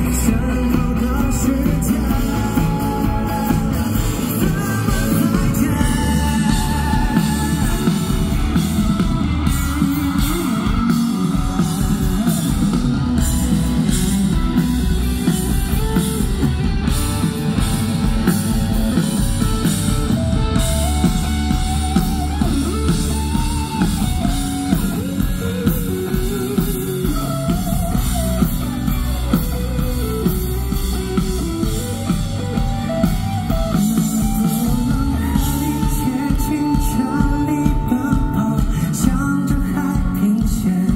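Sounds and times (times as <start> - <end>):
drum kit: 0.0 - 40.9
electric guitar: 0.0 - 40.9
person singing: 0.0 - 40.9.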